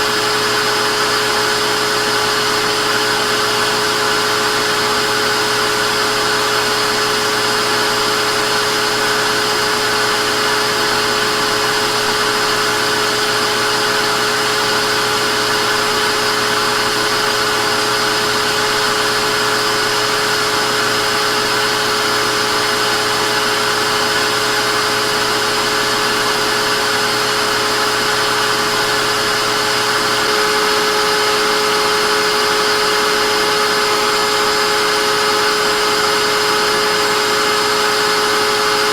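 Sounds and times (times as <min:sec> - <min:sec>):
vacuum cleaner whirring: 0:00.0 - 0:38.9.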